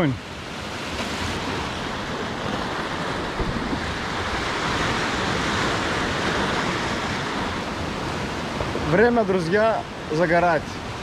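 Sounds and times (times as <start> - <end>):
surf breaking over rocks: 0.2 - 11.0.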